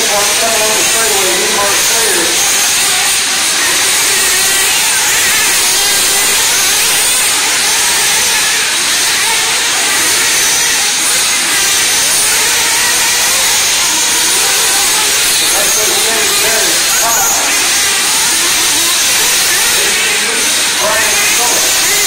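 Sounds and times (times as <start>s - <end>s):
rc cars whirring hiss: 0.0s - 22.0s.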